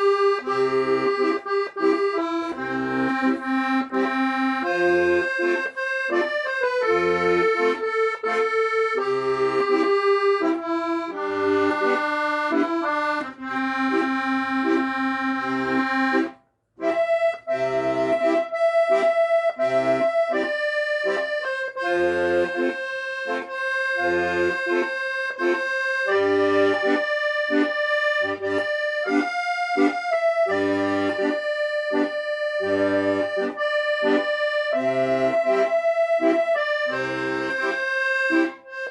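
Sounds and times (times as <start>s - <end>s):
accordion playing a melody: 0.0s - 38.9s.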